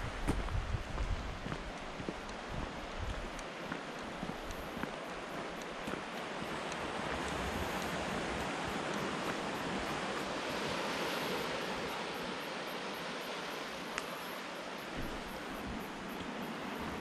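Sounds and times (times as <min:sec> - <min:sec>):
sea surf washing on shore: 0:00.0 - 0:17.0.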